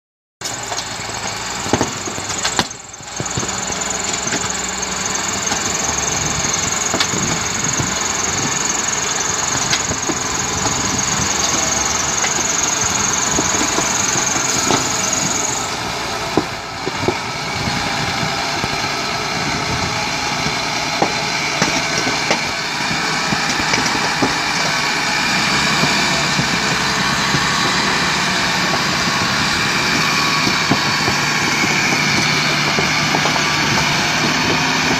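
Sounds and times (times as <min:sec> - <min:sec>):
diesel engine running under load: 0:00.4 - 0:34.9
high steady whine: 0:00.4 - 0:34.9.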